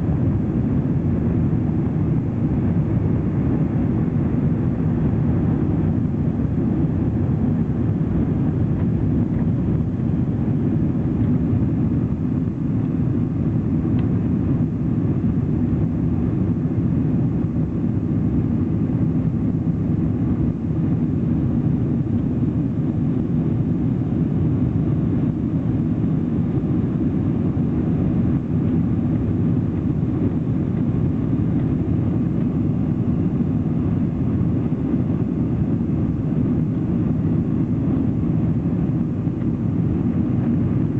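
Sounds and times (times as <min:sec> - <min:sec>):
jet engines roaring in cabin: 0:00.0 - 0:40.9.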